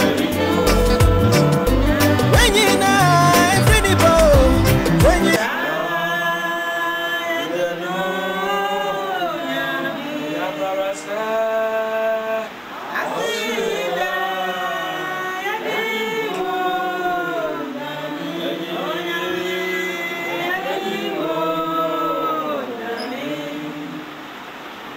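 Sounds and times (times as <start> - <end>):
voices singing long gliding notes: 0.0 - 24.6.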